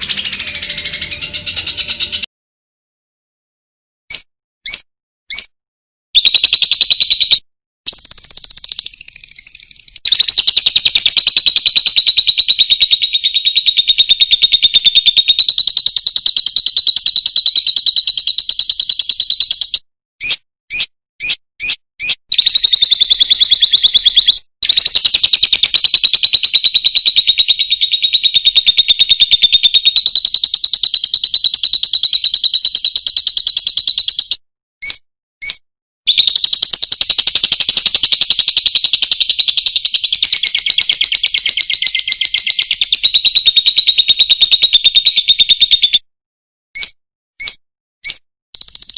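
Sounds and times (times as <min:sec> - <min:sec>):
quick bird chirps: 0:00.0 - 0:02.3, 0:04.1 - 0:05.5, 0:06.2 - 0:46.0, 0:46.8 - 0:48.9
rapid bird trill: 0:00.0 - 0:02.3, 0:04.1 - 0:05.6, 0:06.2 - 0:46.1, 0:46.8 - 0:48.9.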